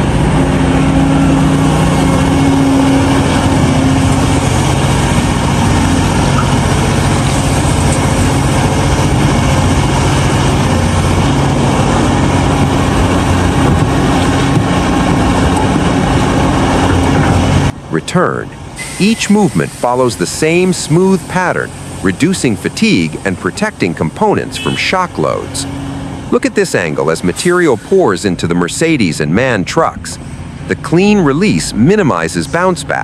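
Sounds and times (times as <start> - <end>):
excavator diesel engine and hydraulics: 0.0 - 33.0.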